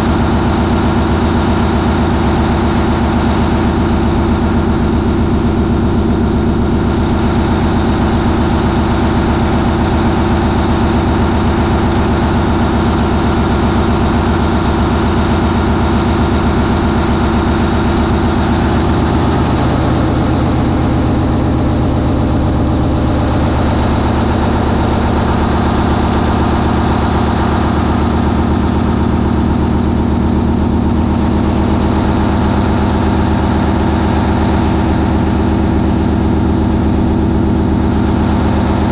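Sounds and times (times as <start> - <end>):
marine diesel engine droning: 0.0 - 38.9.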